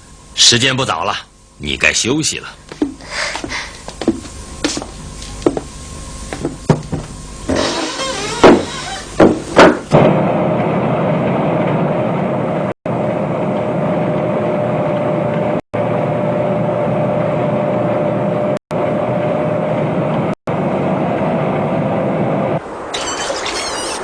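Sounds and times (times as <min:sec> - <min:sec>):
mid-pitched hum: 0:00.0 - 0:22.9
mechanical rumble: 0:03.9 - 0:24.0.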